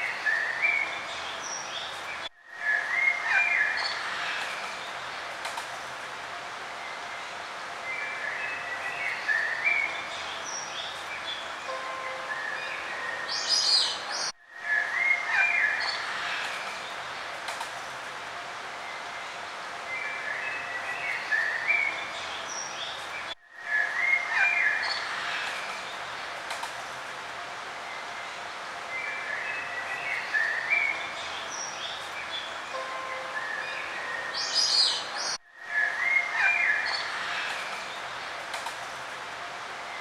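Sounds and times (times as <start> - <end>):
songbirds chirping: 0.0 - 40.0
steady background hiss: 0.0 - 40.0.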